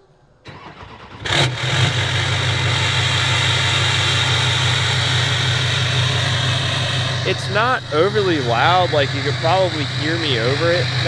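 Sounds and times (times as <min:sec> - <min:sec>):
diesel engine idling: 0:00.5 - 0:11.0
starter motor cranking: 0:00.5 - 0:11.0.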